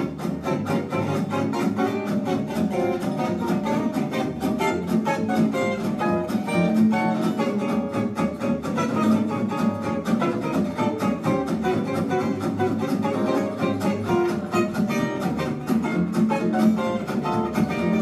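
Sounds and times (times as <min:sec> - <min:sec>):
double bass: 0:00.0 - 0:18.0
plucked lead guitar: 0:00.0 - 0:18.0
strummed rhythm guitar: 0:00.0 - 0:18.0
violin: 0:00.0 - 0:18.0.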